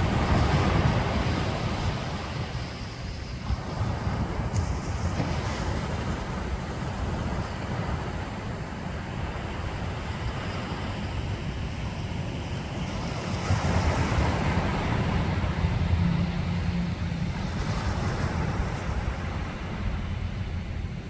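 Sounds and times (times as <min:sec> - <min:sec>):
ocean surf washing onto beach: 0:00.0 - 0:21.0
wind rumbling on microphone: 0:00.0 - 0:21.0.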